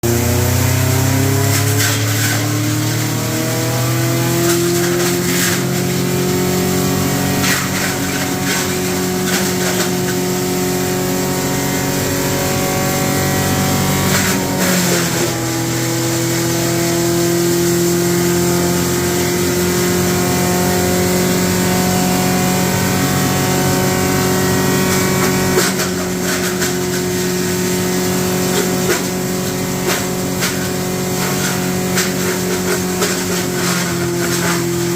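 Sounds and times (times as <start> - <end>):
wood crusher machine drone: 0.0 - 34.9.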